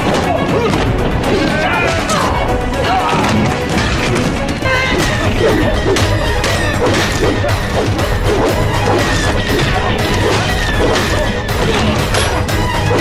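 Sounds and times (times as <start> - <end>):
orchestral action music: 0.0 - 13.0
punches and kicks: 0.0 - 13.0.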